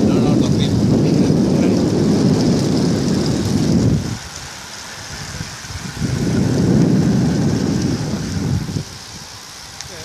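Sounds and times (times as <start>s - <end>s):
wind buffeting microphone: 0.0s - 10.0s
hiss of tyres and air: 0.5s - 10.0s.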